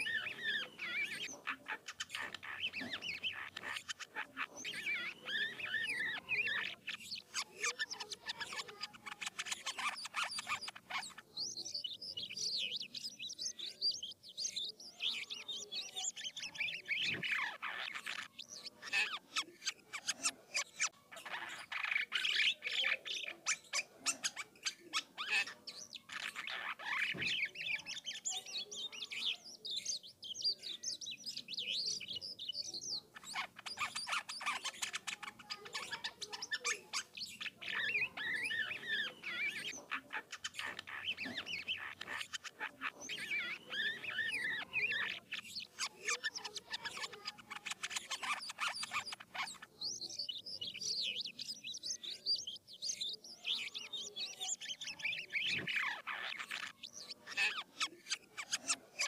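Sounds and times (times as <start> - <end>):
starling singing: 0.0 - 59.0.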